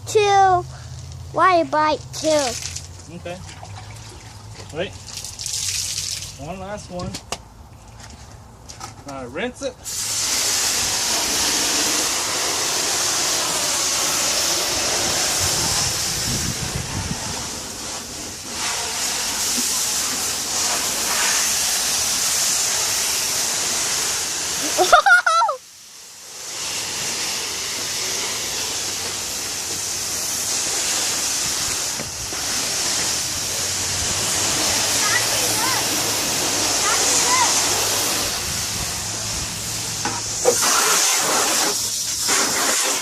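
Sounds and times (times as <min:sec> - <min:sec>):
garden hose spraying water: 0:00.0 - 0:07.0, 0:09.8 - 0:43.0.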